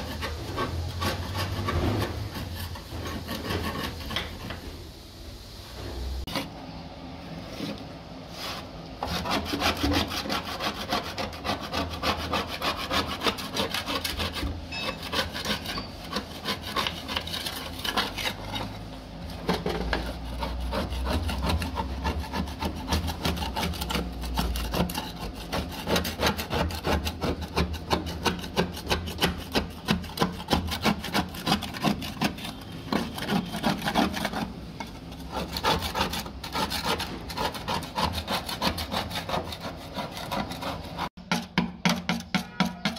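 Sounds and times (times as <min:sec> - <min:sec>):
metal scraper rasping rusty steel: 0:00.0 - 0:04.6, 0:09.0 - 0:42.9.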